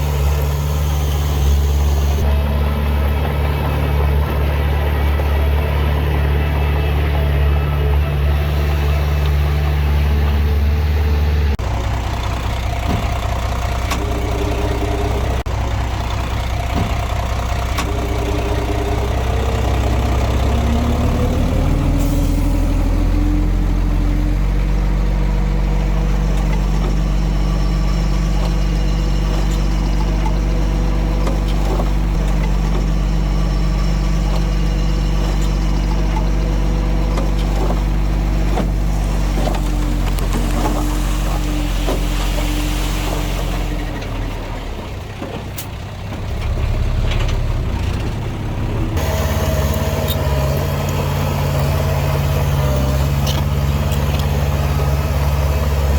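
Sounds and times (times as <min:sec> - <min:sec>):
heavy diesel machinery engine: 0:00.0 - 0:55.9.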